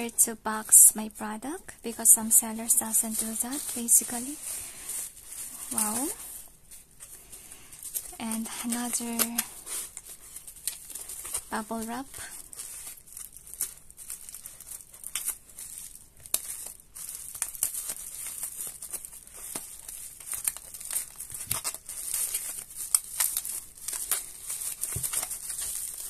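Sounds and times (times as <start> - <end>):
bubble wrap crinkling: 0.0 - 26.0
small tearing sounds: 2.3 - 26.0.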